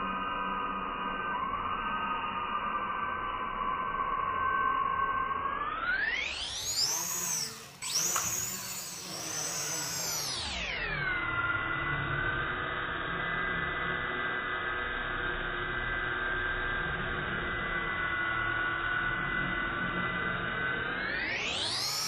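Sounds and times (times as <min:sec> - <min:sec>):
slowed drone motor whine: 0:00.0 - 0:22.0.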